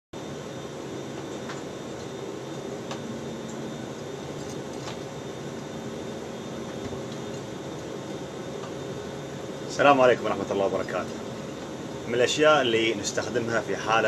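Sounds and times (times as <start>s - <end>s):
ventilation fans humming: 0.2s - 14.0s.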